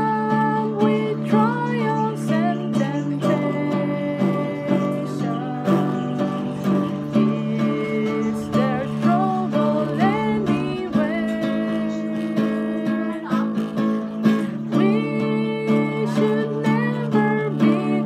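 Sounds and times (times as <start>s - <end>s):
acoustic guitar strumming chords: 0.0s - 18.0s
person singing a hymn: 0.0s - 18.0s.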